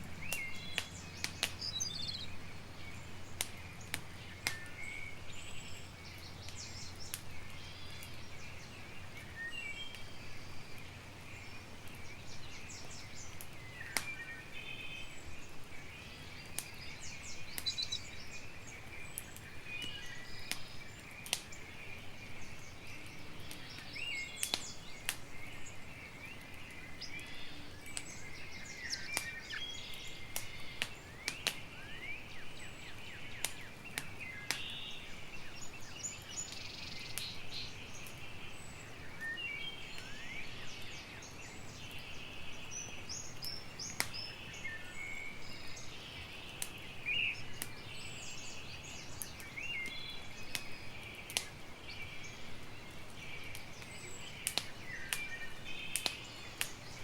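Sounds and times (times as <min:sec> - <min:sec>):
birdsong: 0:00.0 - 0:57.0
campfire crackling and popping: 0:00.0 - 0:57.0.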